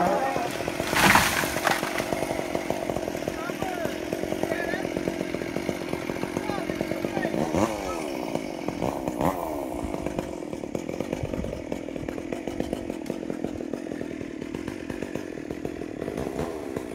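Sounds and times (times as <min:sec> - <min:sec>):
chainsaw engine running: 0:00.0 - 0:16.9.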